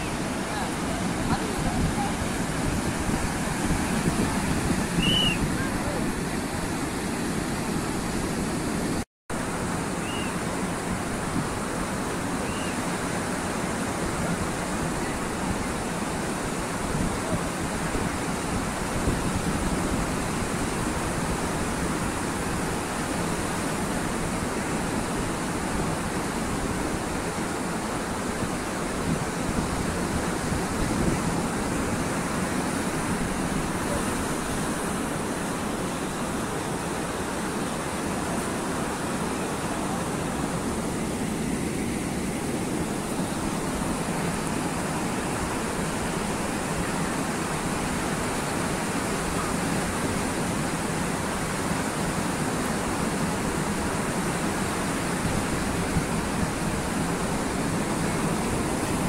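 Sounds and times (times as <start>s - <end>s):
surf breaking on a beach: 0.0s - 59.0s.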